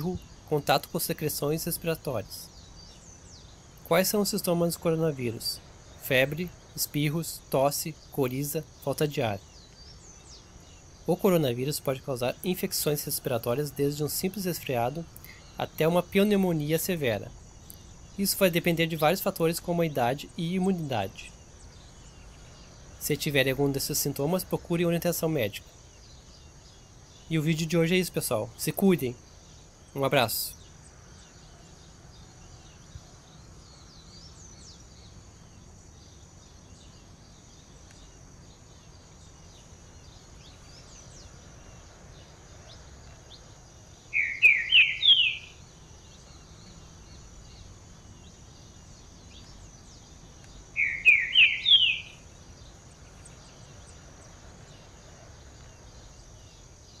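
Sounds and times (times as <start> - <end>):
bird singing climbing notes: 0.0 - 57.0
faint bird chirps: 0.0 - 57.0.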